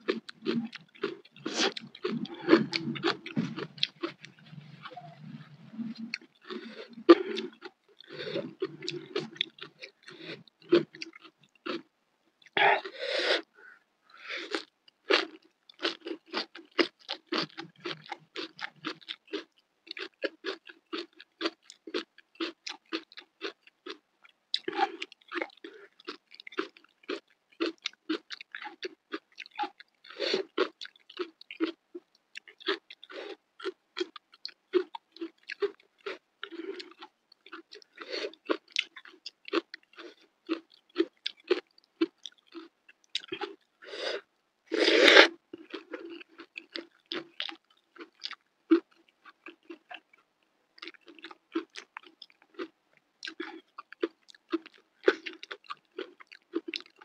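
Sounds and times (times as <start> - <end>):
wet chewing clicks: 0.0 - 11.8, 14.5 - 43.7, 45.2 - 57.0.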